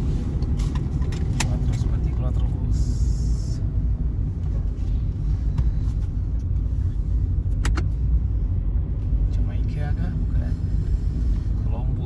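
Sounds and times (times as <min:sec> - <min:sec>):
bus rumble from inside: 0:00.0 - 0:12.0.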